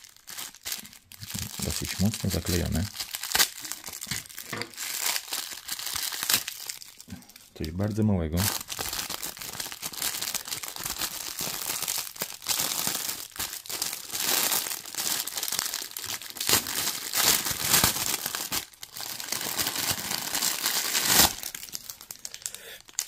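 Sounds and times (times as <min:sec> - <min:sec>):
parcel packaging ripping: 0:00.0 - 0:23.0.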